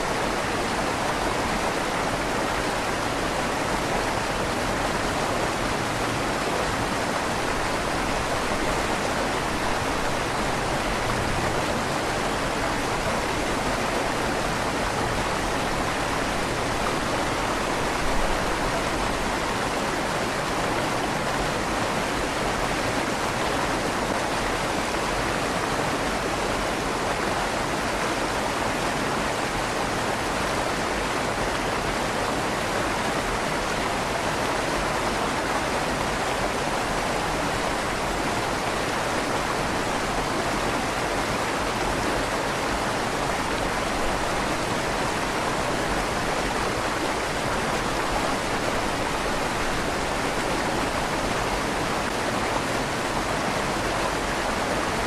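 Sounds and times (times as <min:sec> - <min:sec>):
river water rushing under bridge: 0:00.0 - 0:55.0.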